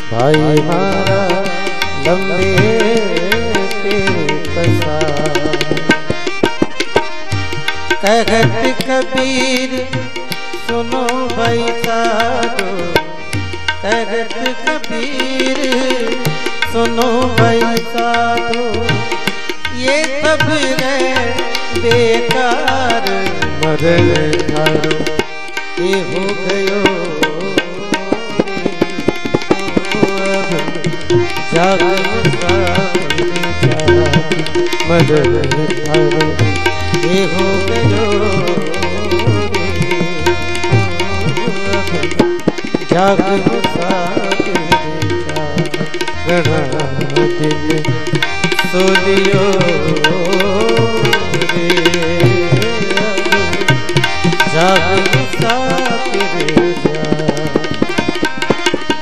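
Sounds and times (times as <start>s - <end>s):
hand drum rhythm: 0.2s - 59.0s.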